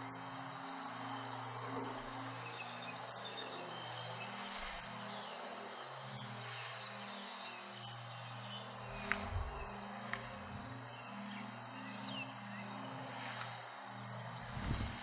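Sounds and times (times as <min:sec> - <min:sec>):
insects chirping in pulses: 0:00.0 - 0:15.0.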